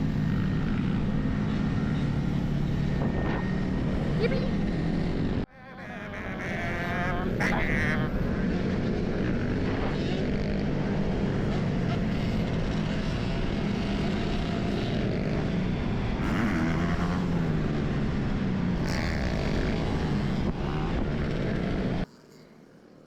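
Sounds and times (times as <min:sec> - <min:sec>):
wind rush over microphone: 0:00.0 - 0:05.4, 0:07.2 - 0:22.0
motorcycle engine drone: 0:00.0 - 0:23.0.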